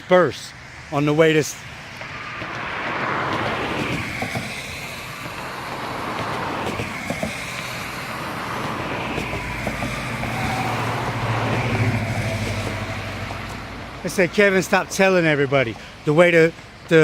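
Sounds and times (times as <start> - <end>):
car tyres hissing with whine: 0.0 - 17.0
heavy vehicle engine rumble: 2.0 - 17.0.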